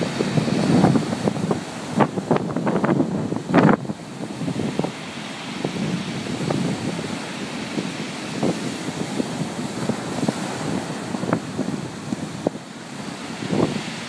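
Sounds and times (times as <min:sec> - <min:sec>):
surf breaking on pebble beach: 0:00.0 - 0:14.0
wind buffeting microphone: 0:00.0 - 0:14.0.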